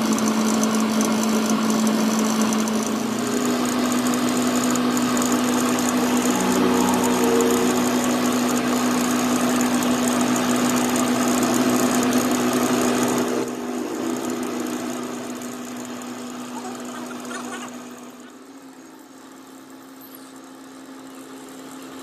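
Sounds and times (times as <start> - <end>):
workshop machine motor humming: 0.0 - 19.6.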